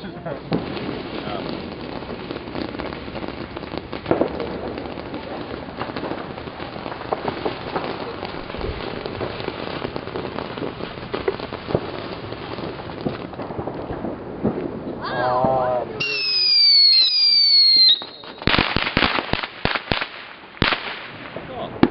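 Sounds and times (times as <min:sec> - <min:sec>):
dense crackling with pops: 0:00.0 - 0:21.9.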